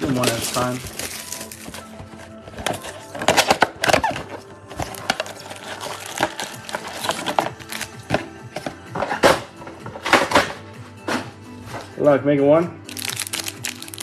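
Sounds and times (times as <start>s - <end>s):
card packs crinkling and scraping: 0.0s - 12.1s, 12.9s - 14.0s
faint background music: 0.0s - 14.0s.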